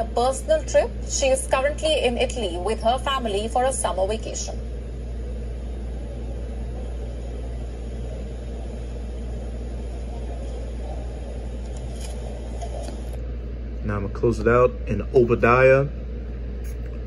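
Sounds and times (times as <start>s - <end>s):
steady low hum and rumble: 0.0s - 17.0s.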